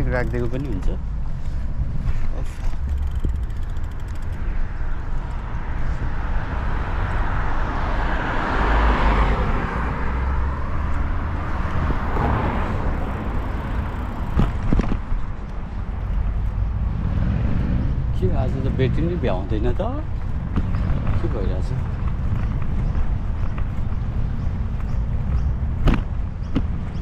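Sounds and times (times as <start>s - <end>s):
motor vehicle passing: 0.0s - 27.0s
wind rumble on microphone: 0.0s - 27.0s.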